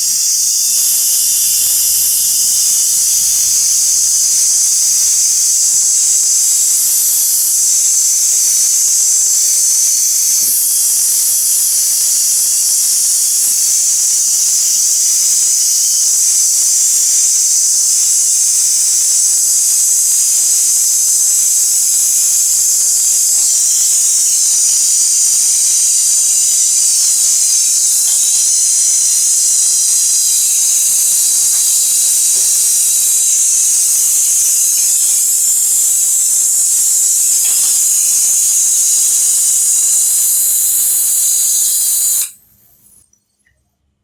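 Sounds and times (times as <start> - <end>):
pressurised gas hissing: 0.0 - 43.0.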